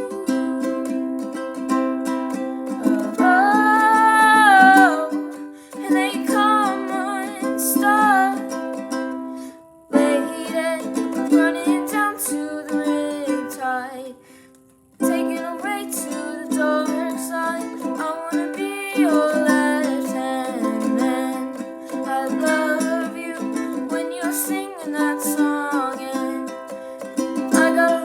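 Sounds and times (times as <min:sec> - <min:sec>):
person singing: 0:00.0 - 0:14.4, 0:15.0 - 0:28.0
ukulele strumming: 0:00.0 - 0:28.0.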